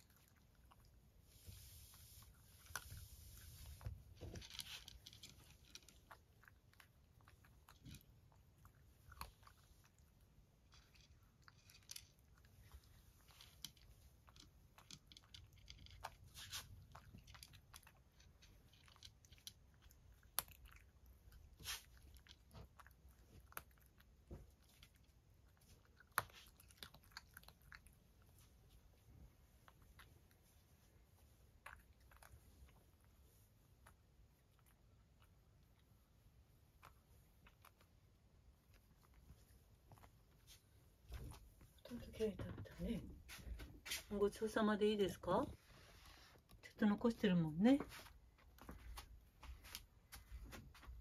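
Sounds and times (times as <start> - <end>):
cat crunching dry kibble: 0.0 - 42.0.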